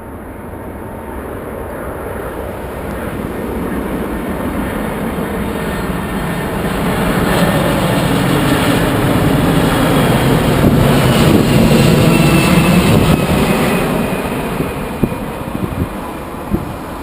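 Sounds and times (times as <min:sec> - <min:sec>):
falling engine whine: 0:00.0 - 0:17.0
jet engines roaring: 0:00.0 - 0:17.0.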